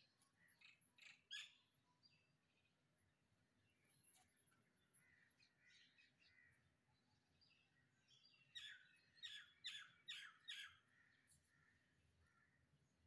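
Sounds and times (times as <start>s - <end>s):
sparrows chirping: 0.0s - 12.6s.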